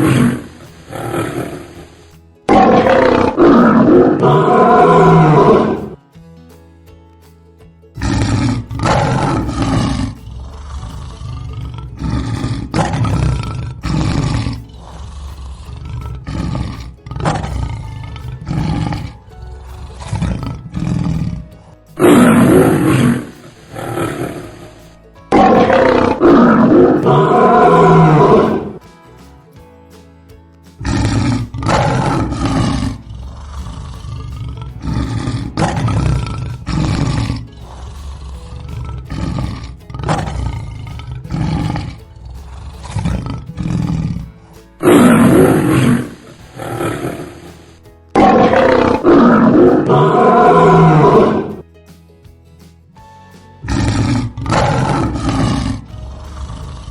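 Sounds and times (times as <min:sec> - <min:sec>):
lion roaring: 0:00.0 - 0:06.0, 0:08.0 - 0:28.8, 0:30.8 - 0:51.6, 0:53.6 - 0:56.9
music: 0:00.0 - 0:56.9.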